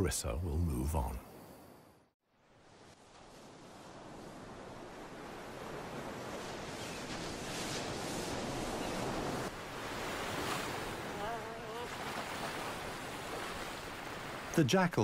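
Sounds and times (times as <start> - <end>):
ocean surf washing onto beach: 2.6 - 15.0.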